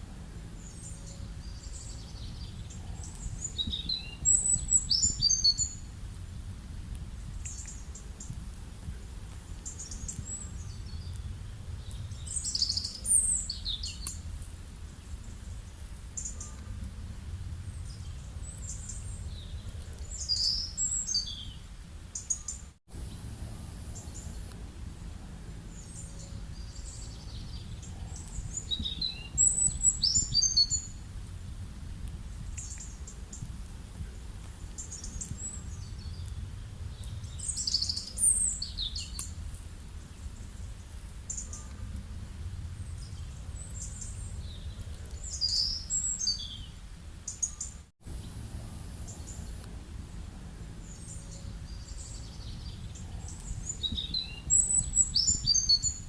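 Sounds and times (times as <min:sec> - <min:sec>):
wild birds chirping: 0:00.0 - 0:06.0, 0:07.2 - 0:31.1, 0:34.5 - 0:41.9, 0:42.6 - 0:56.0
low rural background rumble: 0:00.0 - 0:56.0.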